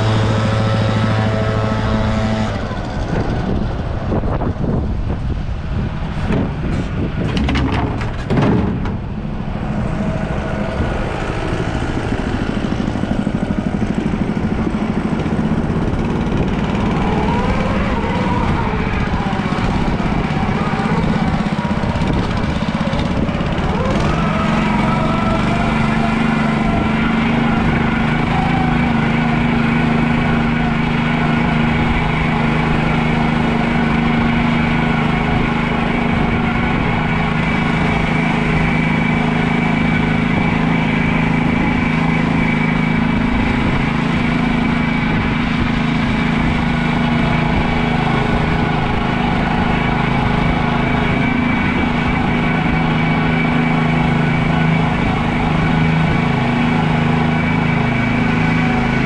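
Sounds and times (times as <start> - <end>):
small engine running steadily: 0.0 - 59.0
steady high whine: 0.0 - 59.0.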